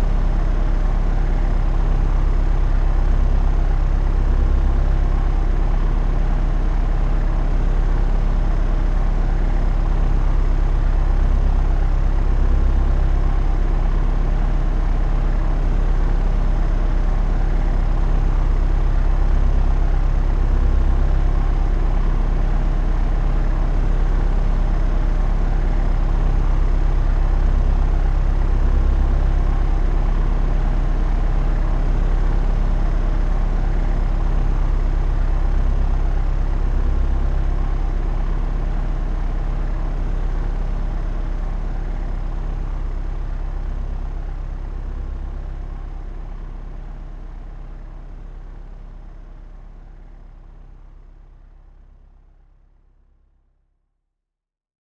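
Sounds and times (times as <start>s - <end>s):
propeller aircraft engine drone: 0.0s - 52.6s.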